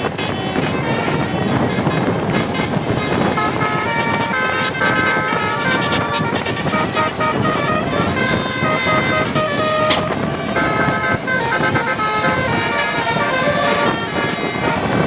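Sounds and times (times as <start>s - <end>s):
multi-tone air horn tune: 0.0s - 15.0s.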